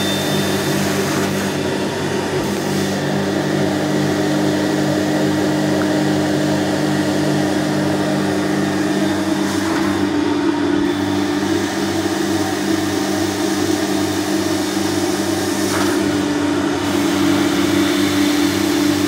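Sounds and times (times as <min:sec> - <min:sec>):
carpet cleaner suction: 0:00.0 - 0:19.0.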